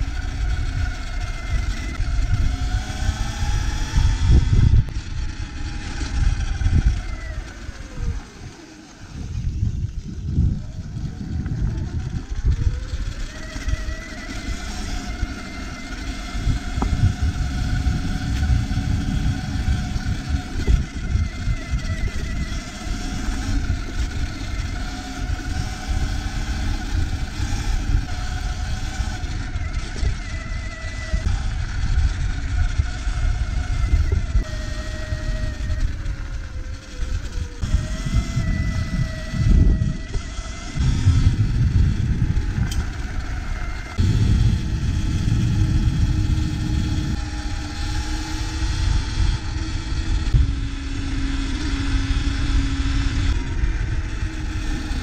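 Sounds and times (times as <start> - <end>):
electric motor whining: 0.0 - 55.0
low rumble of wind: 0.0 - 55.0.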